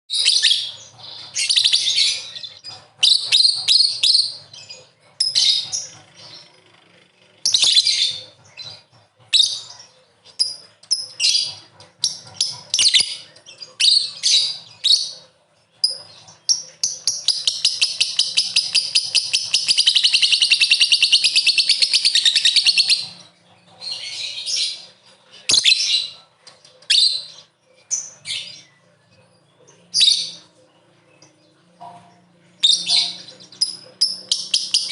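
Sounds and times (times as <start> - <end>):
bird chirping: 0.1 - 34.9
rapid chattering bird trill: 0.1 - 34.9.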